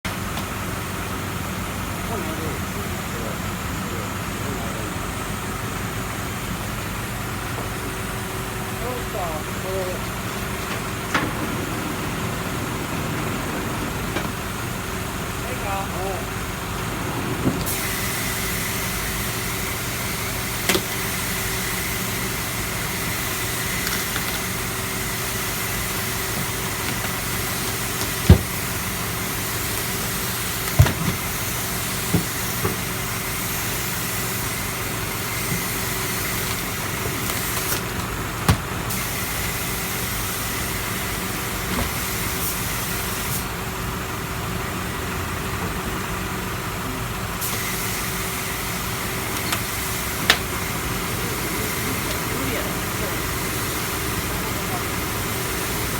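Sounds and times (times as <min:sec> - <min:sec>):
engine-like drone: 0:00.1 - 0:38.3, 0:39.5 - 0:55.9.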